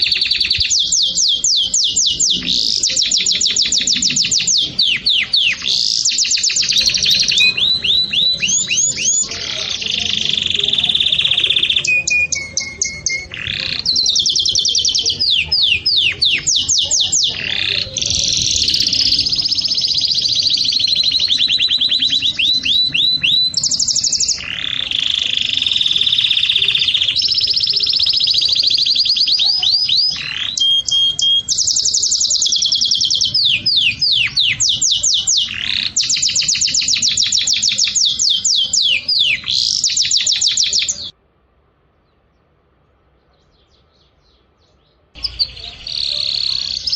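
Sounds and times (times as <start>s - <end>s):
songbird singing trills: 0.0s - 41.2s, 42.0s - 46.9s.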